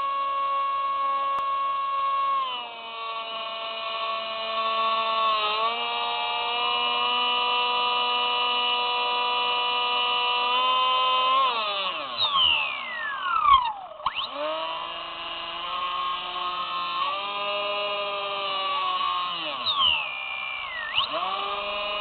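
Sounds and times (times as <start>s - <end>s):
model plane electric motor whining: 0.0s - 22.0s.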